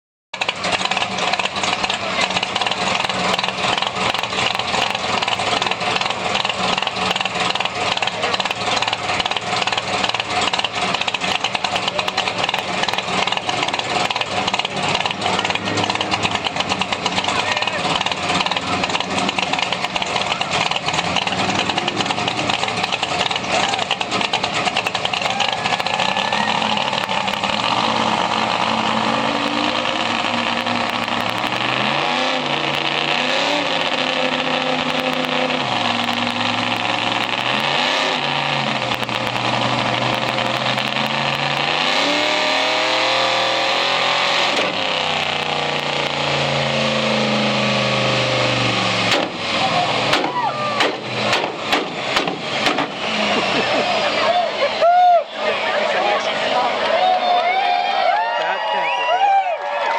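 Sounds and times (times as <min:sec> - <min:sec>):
engine revving on dynamometer: 0:01.6 - 0:54.7.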